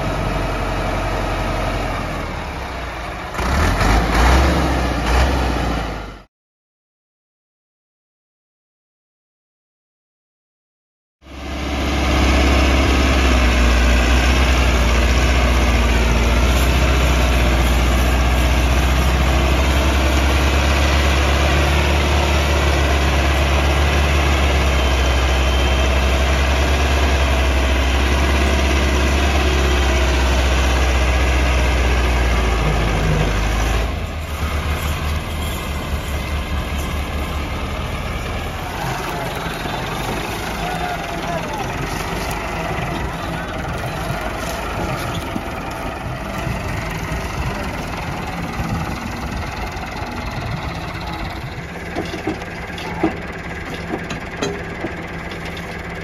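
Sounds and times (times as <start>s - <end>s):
tractor diesel engine under load: 0.0s - 6.3s, 11.2s - 56.0s.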